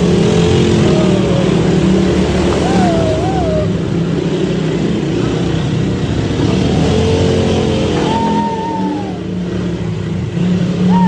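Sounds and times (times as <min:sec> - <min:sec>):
quad bike engine rumbling: 0:00.0 - 0:11.0.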